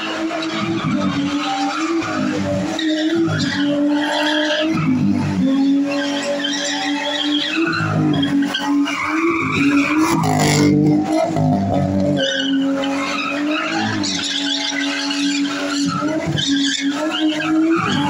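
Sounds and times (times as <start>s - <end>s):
car engine revving high: 0.0s - 18.0s
tyres squealing: 0.1s - 11.5s, 12.1s - 18.0s.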